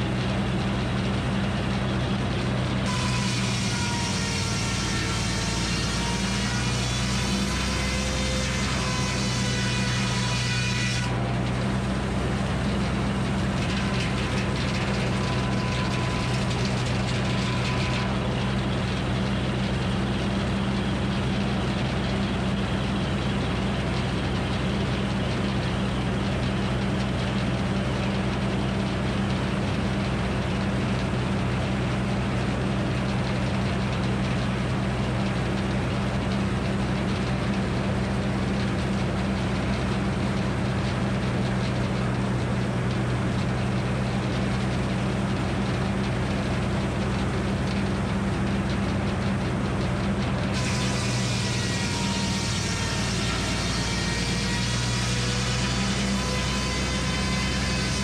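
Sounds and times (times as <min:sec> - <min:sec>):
sawmill mechanical drone: 0:00.0 - 0:58.0.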